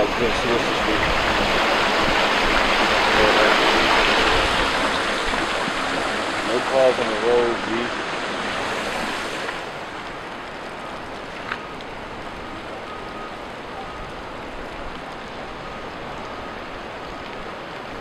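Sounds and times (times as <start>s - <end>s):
wind and rain rushing: 0.0s - 18.0s.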